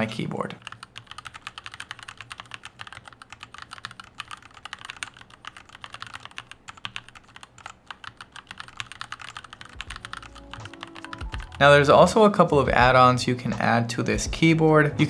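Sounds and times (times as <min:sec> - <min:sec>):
fast typing on mechanical keyboard: 0:00.0 - 0:13.0.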